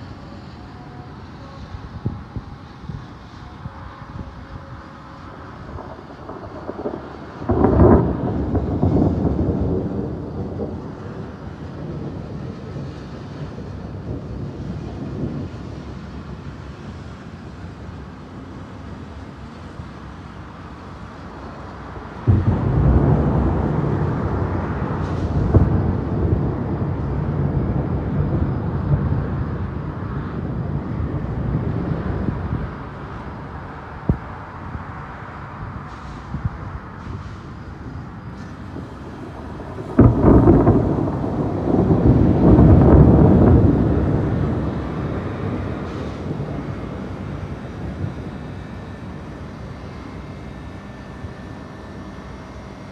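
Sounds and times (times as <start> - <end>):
steady background hiss: 0.0 - 52.9
thunder clap and rumble: 0.0 - 52.9.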